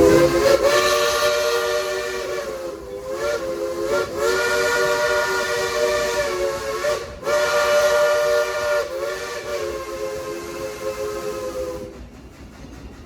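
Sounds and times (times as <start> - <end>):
steam locomotive whistle: 0.0 - 12.0
steam hiss: 0.0 - 13.0.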